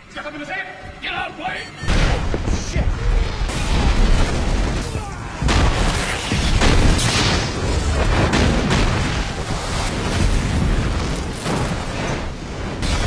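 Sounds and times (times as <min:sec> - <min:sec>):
explosions booming: 0:01.9 - 0:13.0.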